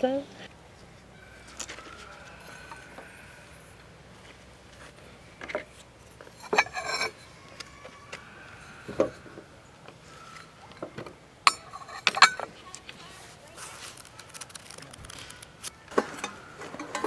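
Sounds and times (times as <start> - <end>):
porcelain dishes clinking: 0.0 - 13.1, 15.9 - 17.0.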